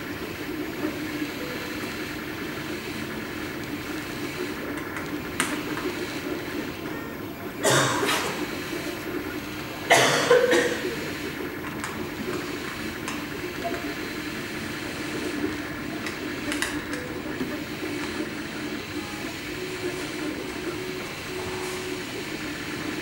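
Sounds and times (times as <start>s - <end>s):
printer motors and fan humming: 0.0s - 23.0s.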